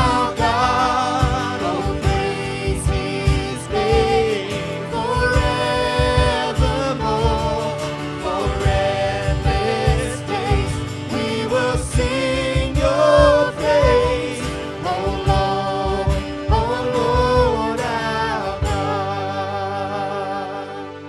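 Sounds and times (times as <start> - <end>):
steady drum beat: 0.0 - 19.0
band playing: 0.0 - 21.0
voices singing worship song: 0.0 - 21.0.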